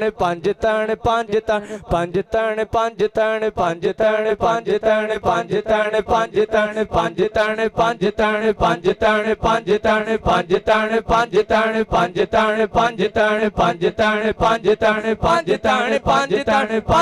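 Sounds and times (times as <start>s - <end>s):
man chanting through loudspeakers: 0.0s - 17.0s.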